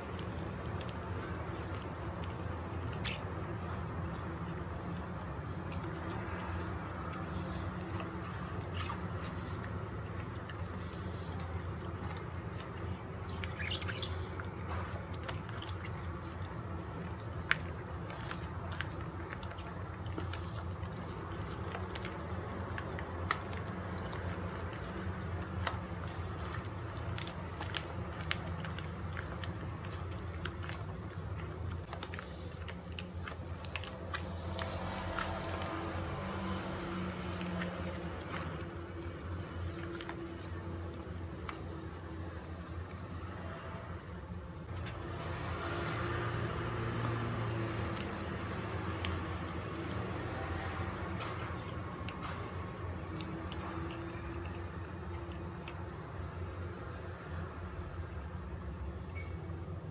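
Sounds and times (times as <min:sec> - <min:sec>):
hand squeezing wet dough: 0:00.0 - 0:59.9.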